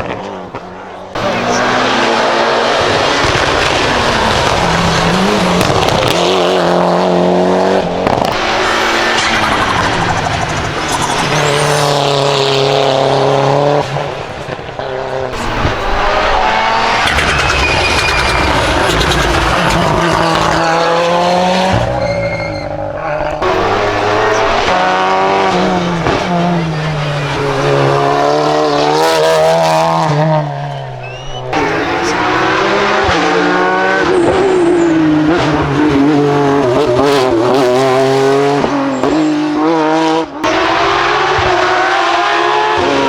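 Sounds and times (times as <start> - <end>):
race car engine revving: 0.0 - 43.0.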